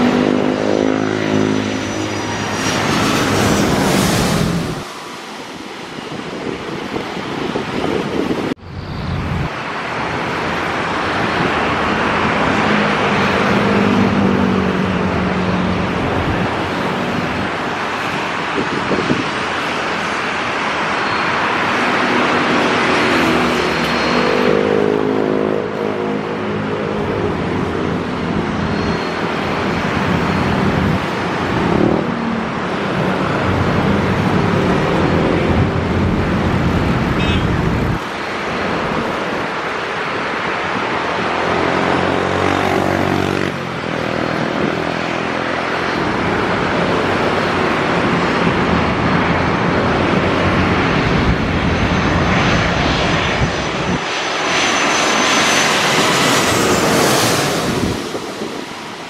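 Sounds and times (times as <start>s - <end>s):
jet airliner rushing: 0.0s - 59.0s
road vehicles passing: 0.0s - 59.0s.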